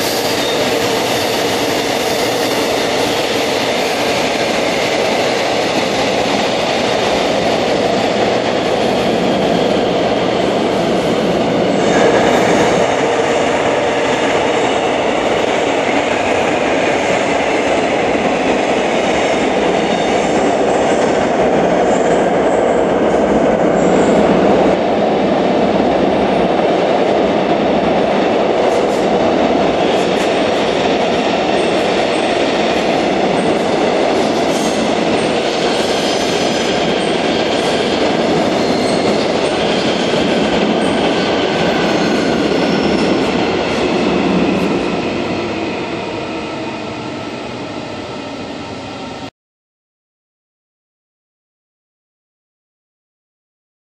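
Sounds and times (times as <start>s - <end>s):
train wheels rumbling on rails: 0.0s - 49.3s.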